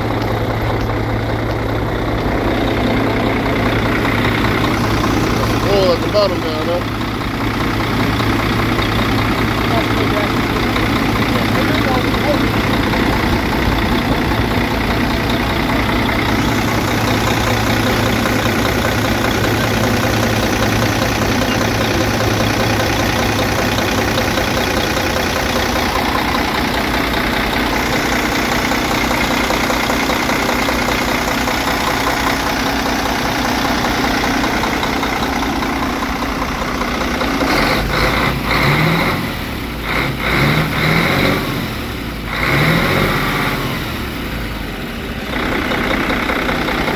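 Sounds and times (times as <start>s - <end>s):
diesel truck engine idling: 0.0s - 46.9s.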